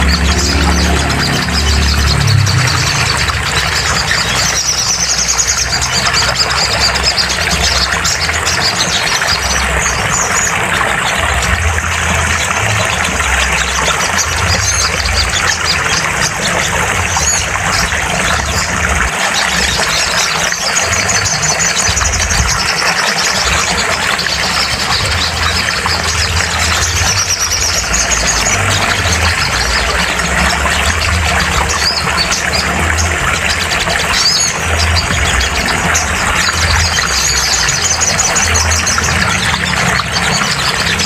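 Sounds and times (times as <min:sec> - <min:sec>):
bird trilling chirps: 0:00.0 - 0:11.6, 0:13.3 - 0:41.0.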